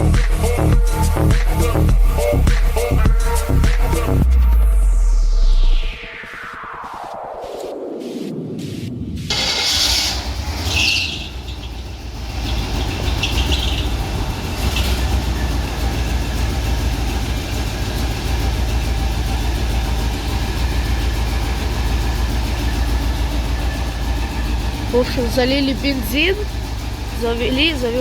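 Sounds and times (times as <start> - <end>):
truck engine idling: 0.0 - 4.8, 9.3 - 28.0.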